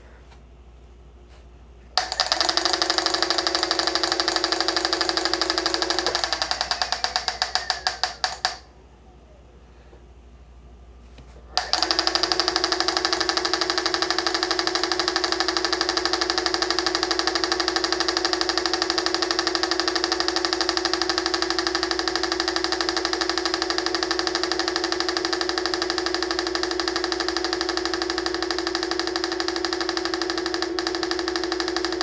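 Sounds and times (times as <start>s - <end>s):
hub motor rattling and humming: 2.0s - 8.7s, 11.6s - 32.0s.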